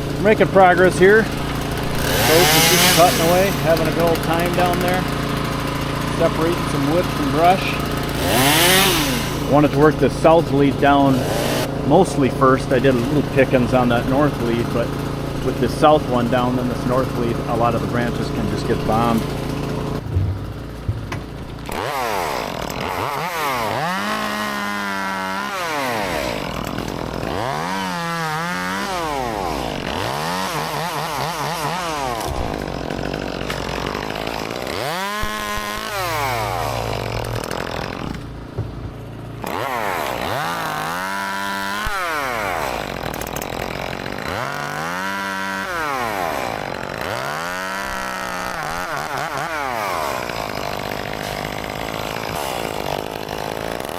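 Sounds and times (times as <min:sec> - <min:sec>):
chainsaw revving through limbs: 0:00.0 - 0:53.9.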